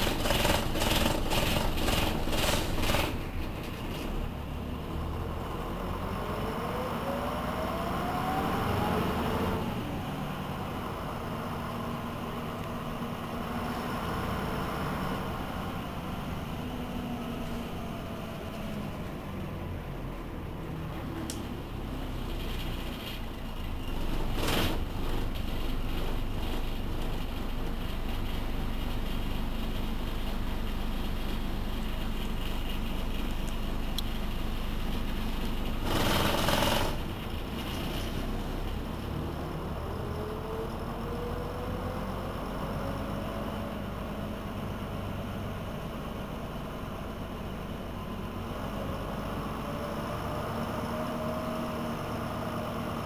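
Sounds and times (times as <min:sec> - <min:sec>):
diesel bus engine idling: 0:00.0 - 0:53.0.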